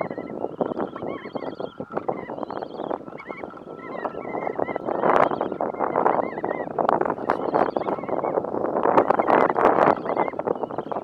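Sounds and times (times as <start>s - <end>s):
shorebird flock calling: 0.0s - 11.0s.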